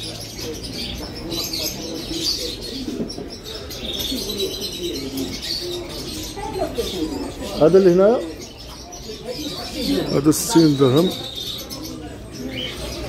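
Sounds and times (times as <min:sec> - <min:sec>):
bird chirps and twitters: 0:00.0 - 0:13.0
caged birds calling: 0:00.0 - 0:13.0.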